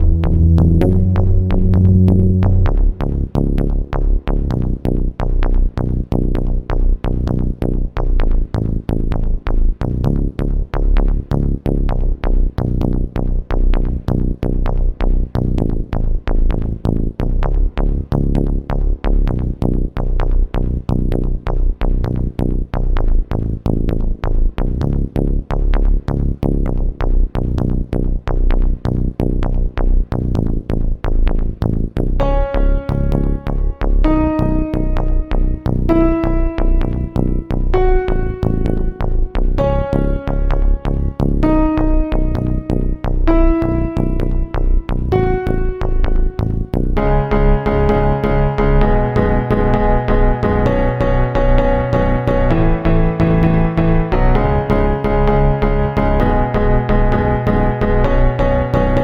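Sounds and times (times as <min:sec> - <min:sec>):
electronic music with heavy bass: 0:00.0 - 0:59.0.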